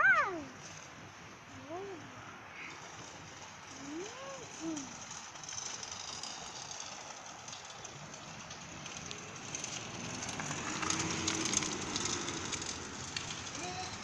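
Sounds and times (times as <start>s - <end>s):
tyres rolling on concrete: 2.7s - 14.0s.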